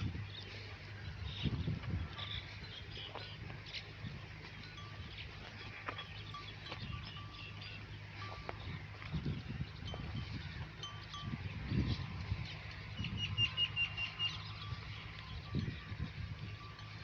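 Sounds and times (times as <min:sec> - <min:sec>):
sheep bells clinking: 0:00.0 - 0:17.0.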